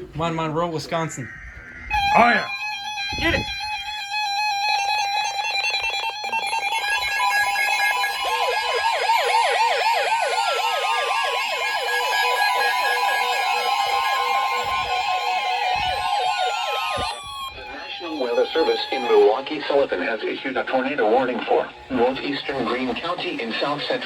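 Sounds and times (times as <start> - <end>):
steady alarm tone: 0.0 - 24.0
fast warbling siren: 0.4 - 24.0.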